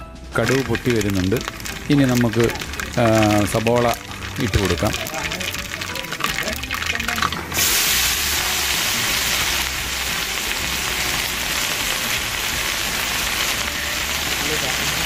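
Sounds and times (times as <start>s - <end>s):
mustard seeds crackling in oil: 0.4s - 15.0s
onions sizzling in oil: 0.4s - 15.0s.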